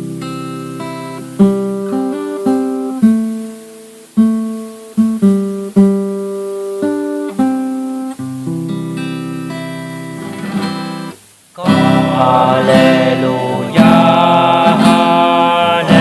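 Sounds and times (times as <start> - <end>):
acoustic guitar plucking: 0.0 - 16.0.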